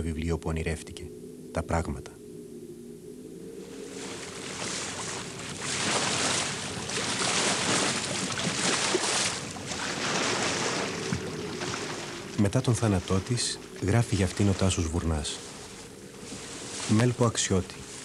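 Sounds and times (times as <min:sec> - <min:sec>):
sea waves breaking: 0:03.5 - 0:18.0.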